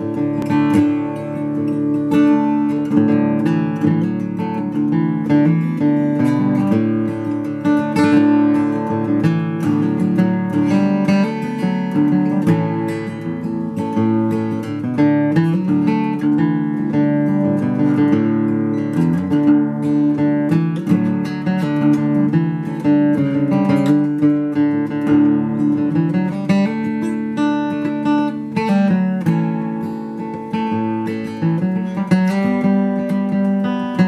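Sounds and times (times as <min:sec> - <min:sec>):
fingerstyle acoustic guitar: 0:00.0 - 0:34.0.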